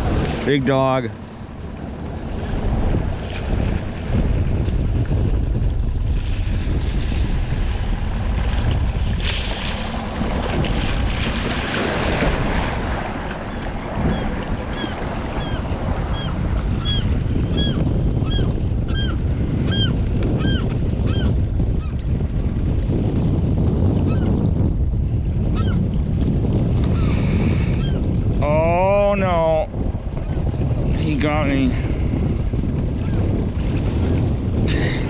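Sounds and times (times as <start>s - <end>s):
water noise: 0.0s - 35.0s
wind buffeting microphone: 0.0s - 35.0s.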